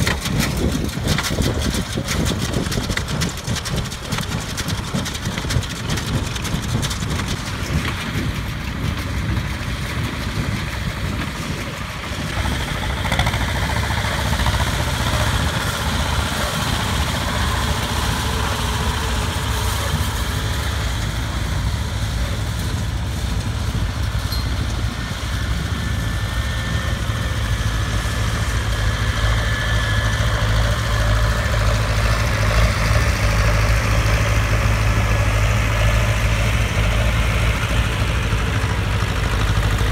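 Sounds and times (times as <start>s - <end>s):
deep engine hum: 0.0s - 39.9s
diesel tractors running: 0.0s - 39.9s.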